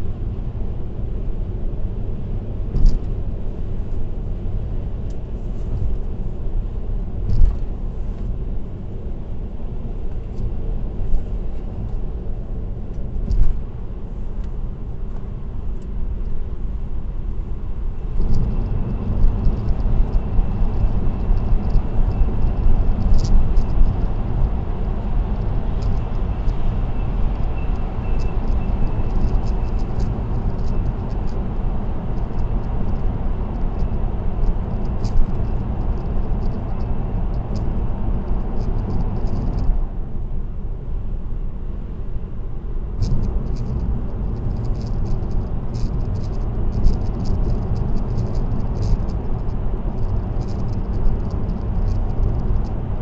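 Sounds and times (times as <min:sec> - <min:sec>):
road and tyre noise: 0:00.0 - 0:53.0.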